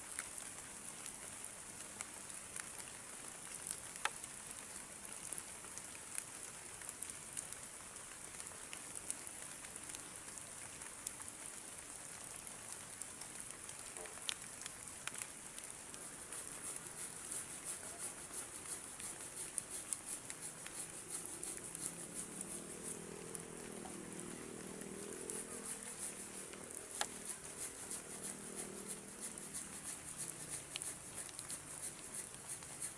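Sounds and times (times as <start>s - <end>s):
heavy rain: 0.0s - 32.9s
raindrops ticking on surface: 0.0s - 32.9s.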